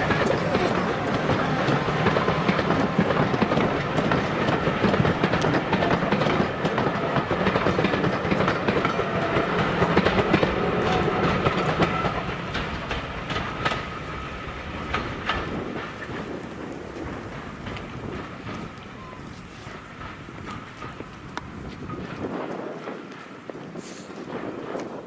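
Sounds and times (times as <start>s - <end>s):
steam train running past: 0.0s - 25.0s
wheels clicking over rail joints: 0.0s - 25.0s.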